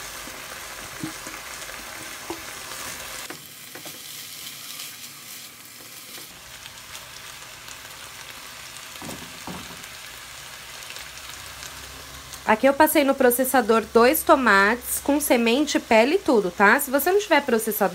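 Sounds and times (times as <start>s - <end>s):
chicken and onion sizzling in pan: 0.0s - 17.9s.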